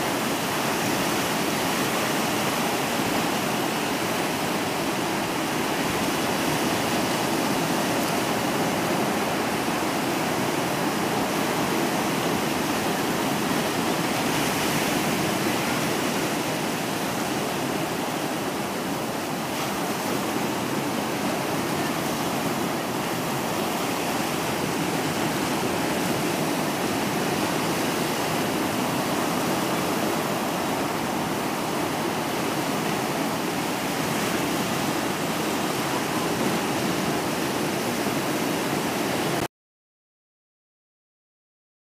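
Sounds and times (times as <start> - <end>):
waves washing onto shore: 0.0 - 39.5.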